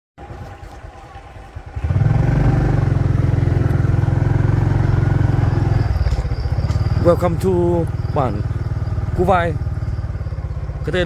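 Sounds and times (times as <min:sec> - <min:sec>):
motorcycle engine running: 0:00.2 - 0:11.0.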